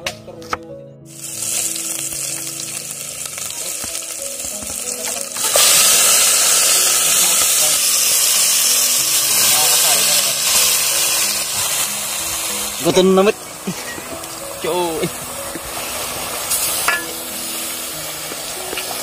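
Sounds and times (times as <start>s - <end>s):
food sizzling in hot oil: 1.1s - 19.0s.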